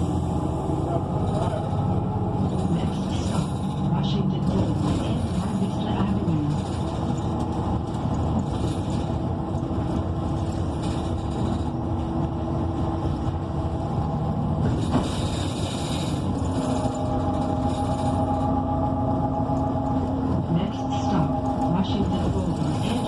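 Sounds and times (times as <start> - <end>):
bus engine rumble and whine: 0.0 - 23.0.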